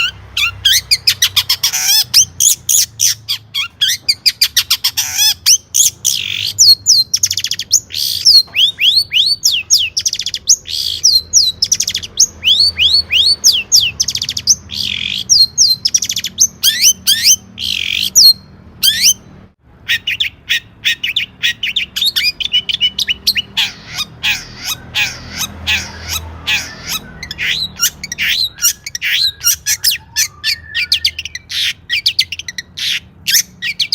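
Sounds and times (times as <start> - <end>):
bird singing chirps and whistles: 0.0 - 19.3, 19.9 - 33.9.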